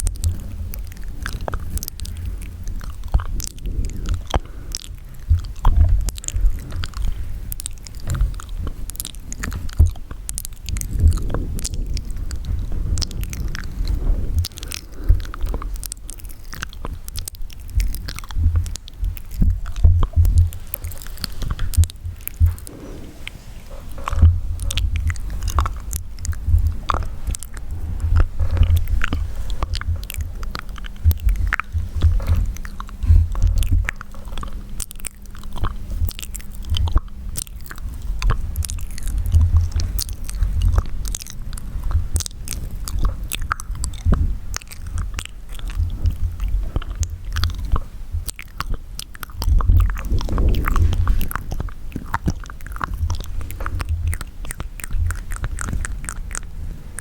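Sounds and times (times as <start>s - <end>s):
low rumble: 0.0s - 57.0s
wet mouth clicks and smacks: 0.0s - 57.0s.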